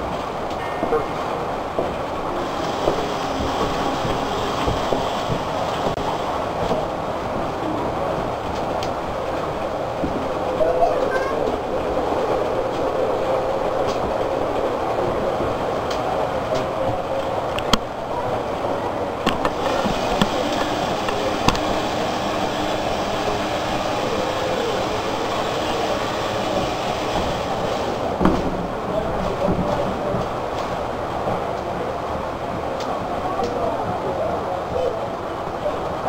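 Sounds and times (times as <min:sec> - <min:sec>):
model train running: 0:00.0 - 0:36.0.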